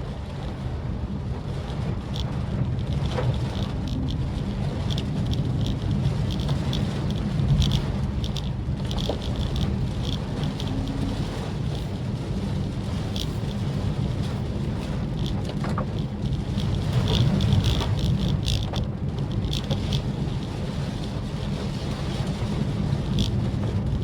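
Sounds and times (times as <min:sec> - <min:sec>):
car driving on wet road: 0:00.0 - 0:24.0
light ticks: 0:01.6 - 0:12.0, 0:12.8 - 0:21.2, 0:22.2 - 0:24.0.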